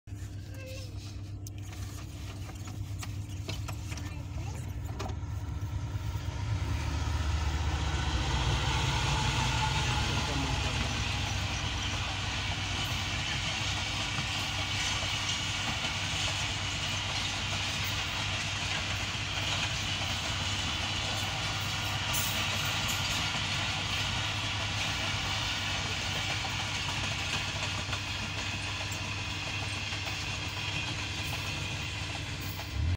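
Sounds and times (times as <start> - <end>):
train coaches rolling past: 0.1 - 32.9.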